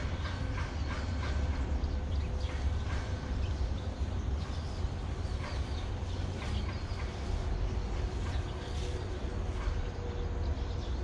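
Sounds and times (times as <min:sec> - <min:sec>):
traffic rumble overhead: 0:00.0 - 0:11.0.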